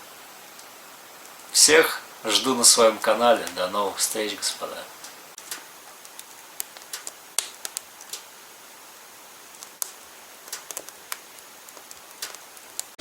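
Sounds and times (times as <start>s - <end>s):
faint steady hiss: 0.0s - 13.0s
firewood crackling: 0.0s - 13.0s.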